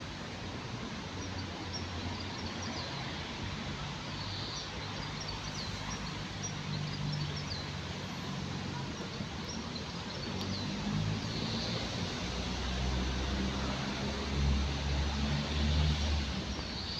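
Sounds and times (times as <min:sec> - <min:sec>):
distant traffic rumble: 0:00.0 - 0:16.9.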